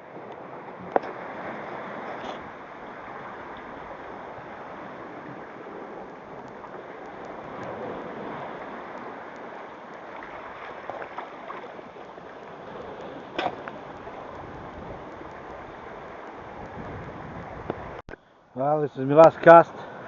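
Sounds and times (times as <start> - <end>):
wind buffeting microphone: 0.0 - 18.0
sea surf: 0.0 - 20.0.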